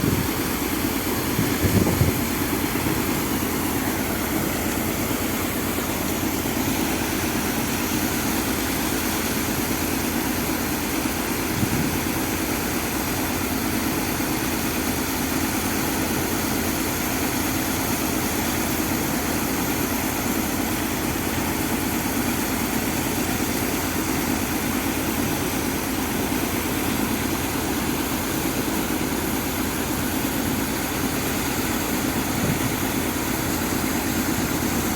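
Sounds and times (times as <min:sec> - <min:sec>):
pump engine running: 0:00.0 - 0:34.9.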